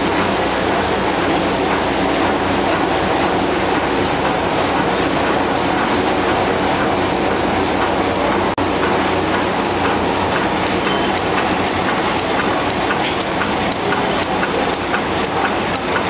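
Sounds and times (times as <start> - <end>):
printing press clattering: 0.0 - 16.0.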